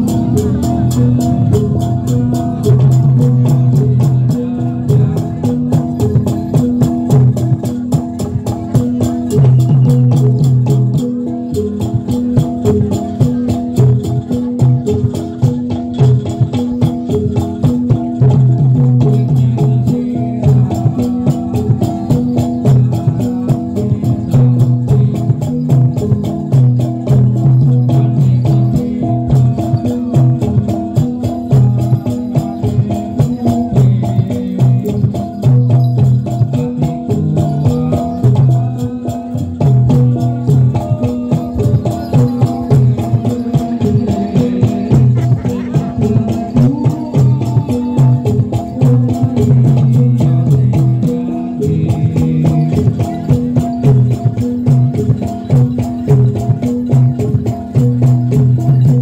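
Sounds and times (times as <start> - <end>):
metal-keyed melody: 0.0 - 59.0.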